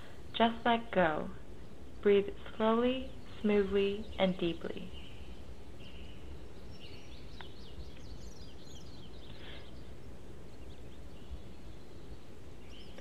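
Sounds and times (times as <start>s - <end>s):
birds chirping: 0.0s - 13.0s
low background noise: 0.0s - 13.0s.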